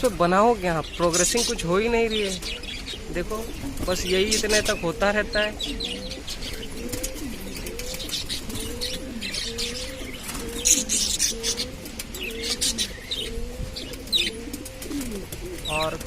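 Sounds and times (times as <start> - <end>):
budgerigars chattering: 0.0 - 16.0
pigeons cooing: 0.0 - 16.0.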